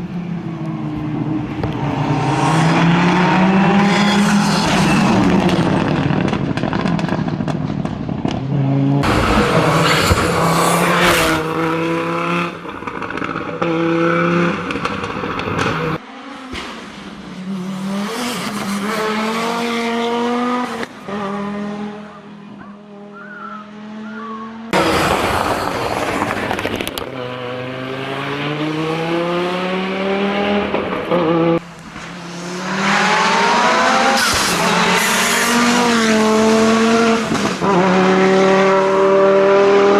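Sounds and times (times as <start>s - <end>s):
rally car engine revving: 1.1s - 39.9s.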